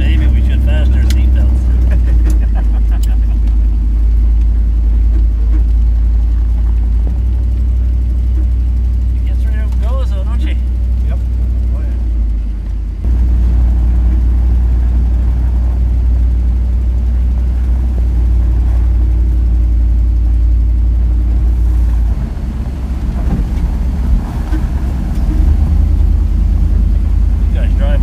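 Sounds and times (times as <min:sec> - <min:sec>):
vehicle engine rumbling from inside: 0:00.0 - 0:28.0.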